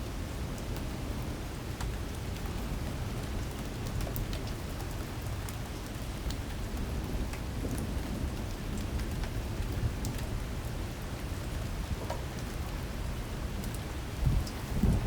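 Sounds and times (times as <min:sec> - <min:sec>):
heavy rain falling: 0:00.2 - 0:15.0.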